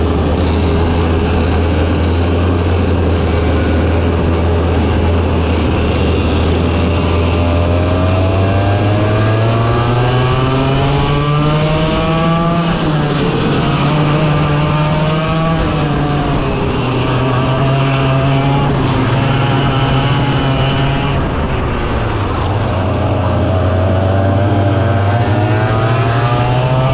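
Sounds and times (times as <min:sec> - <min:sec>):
racing kart engine revving: 0:00.0 - 0:26.9.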